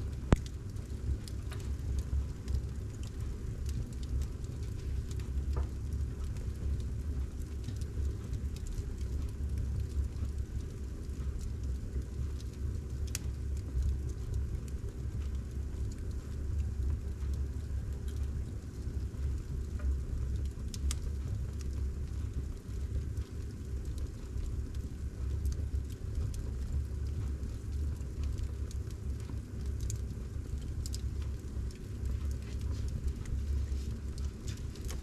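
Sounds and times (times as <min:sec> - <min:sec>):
logs crackling and popping: 0:00.0 - 0:35.0
low rumble of flames: 0:00.0 - 0:35.0.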